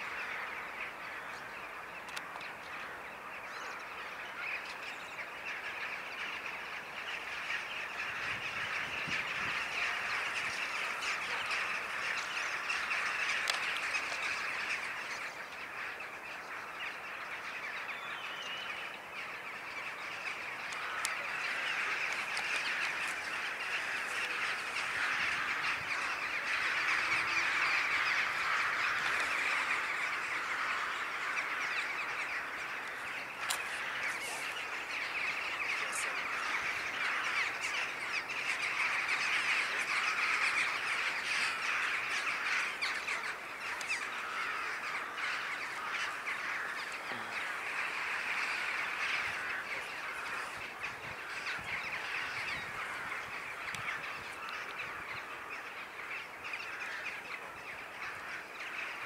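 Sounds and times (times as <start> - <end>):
flock of birds calling: 0.0 - 59.0.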